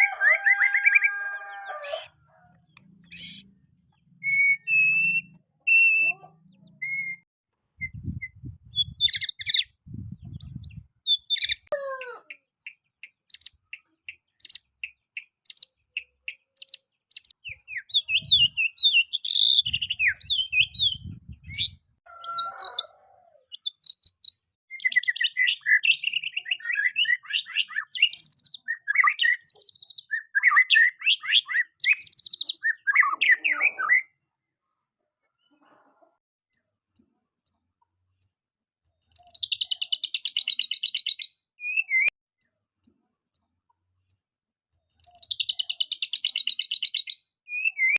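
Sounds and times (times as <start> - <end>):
bird singing: 0.0 - 7.3, 8.2 - 22.8, 23.5 - 34.2, 38.2 - 47.9.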